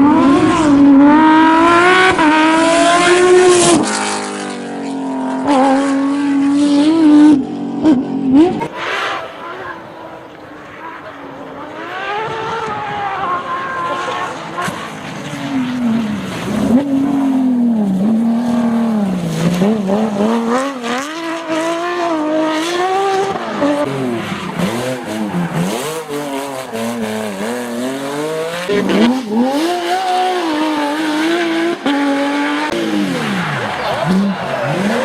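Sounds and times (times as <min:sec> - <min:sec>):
racing car engine accelerating: 0:00.0 - 0:35.0.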